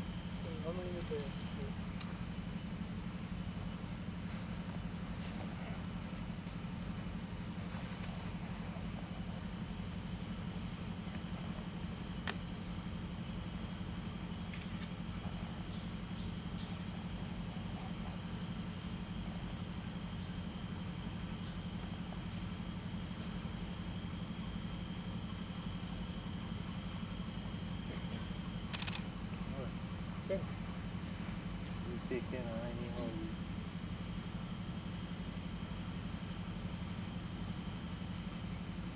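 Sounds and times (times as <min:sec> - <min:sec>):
faint high steady tones: 0:00.0 - 0:38.9
low background hum: 0:00.0 - 0:38.9.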